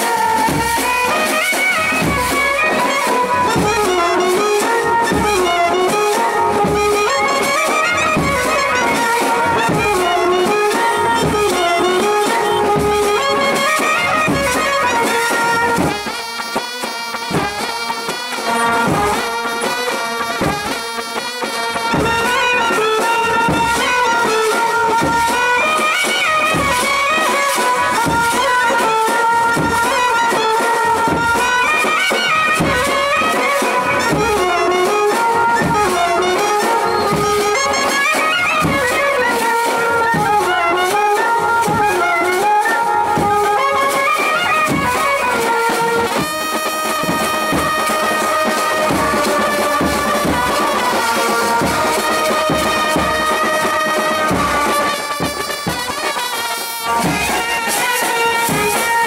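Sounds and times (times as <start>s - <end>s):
clarinet melody: 0.0s - 59.0s
steady drum beat: 0.0s - 59.0s
trumpets and baritone horn: 0.0s - 59.0s.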